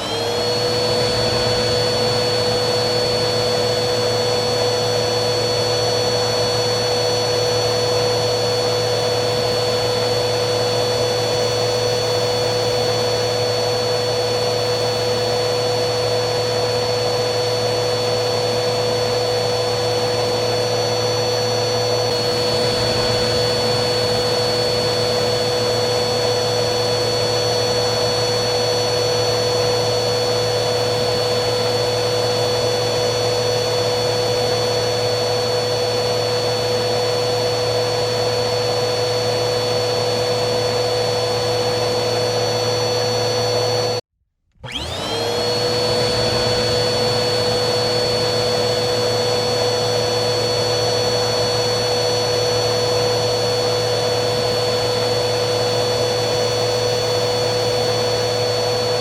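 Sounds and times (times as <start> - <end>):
vacuum cleaner motor whining: 0.0 - 59.0.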